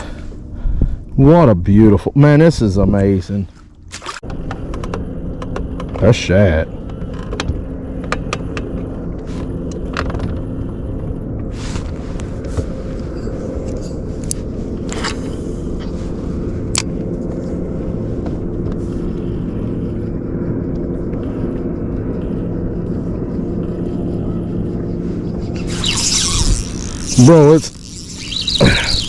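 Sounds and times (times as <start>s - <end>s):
boat motor humming: 2.8s - 29.0s.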